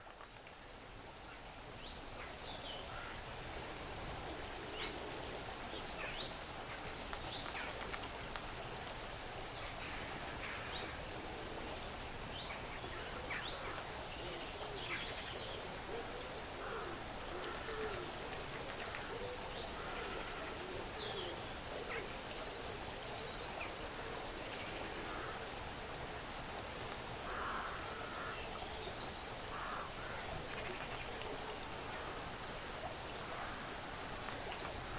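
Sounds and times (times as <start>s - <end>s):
steady soft hiss: 0.0s - 34.9s.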